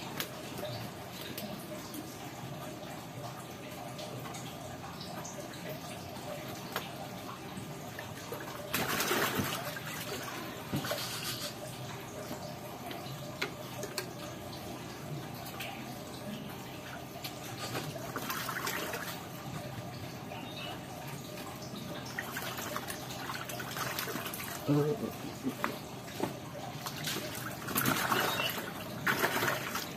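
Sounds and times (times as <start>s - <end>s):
water trickling: 0.0s - 29.9s.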